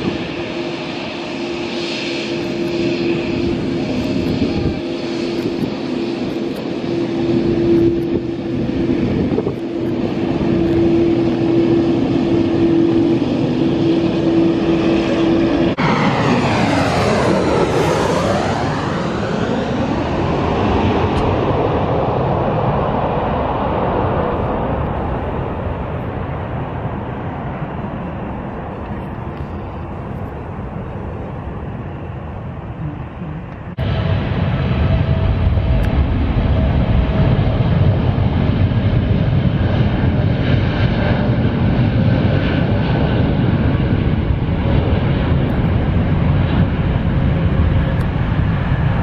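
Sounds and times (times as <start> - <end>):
jet engines whining: 0.0 - 49.0
jet passing low overhead: 0.0 - 49.0.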